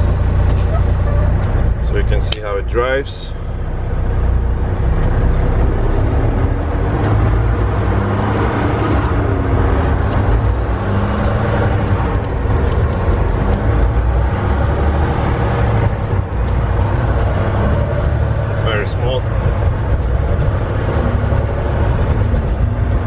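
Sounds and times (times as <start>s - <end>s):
diesel truck engine rumble: 0.0s - 23.0s
road noise: 0.0s - 23.0s.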